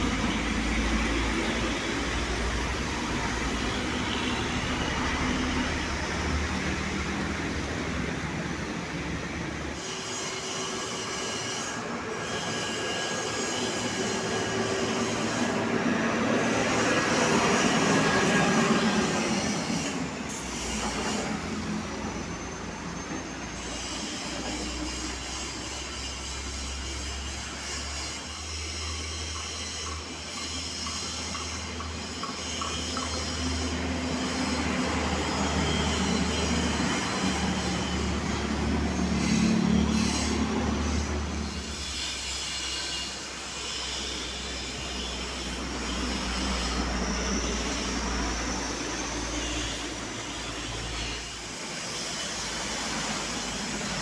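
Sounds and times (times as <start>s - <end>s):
trucks and buses passing: 0.0s - 54.0s
high thin squeal: 9.6s - 54.0s.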